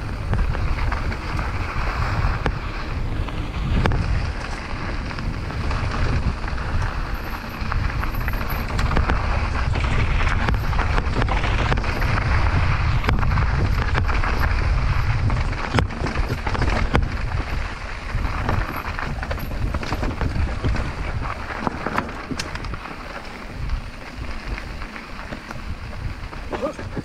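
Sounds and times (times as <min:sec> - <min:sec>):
bike rattling and knocking: 0:00.0 - 0:27.0
tyres rolling over dirt trail: 0:00.0 - 0:27.0
wind buffeting microphone: 0:00.0 - 0:27.0.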